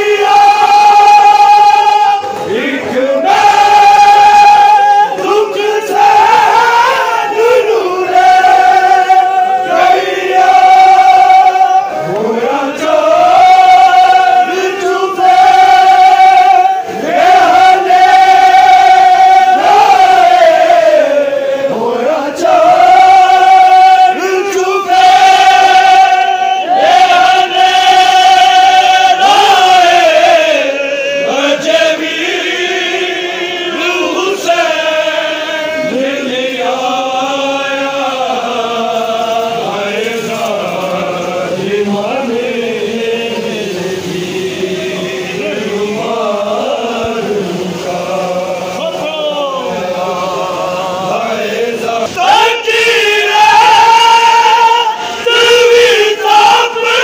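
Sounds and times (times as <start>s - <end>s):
crowd of men chanting in unison: 0.0s - 57.0s
man singing a lament into a microphone: 0.0s - 57.0s.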